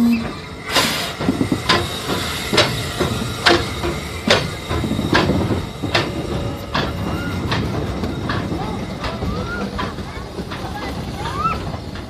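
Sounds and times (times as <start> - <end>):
train rumble: 0.0 - 12.0
train wheels clicking: 0.0 - 12.0.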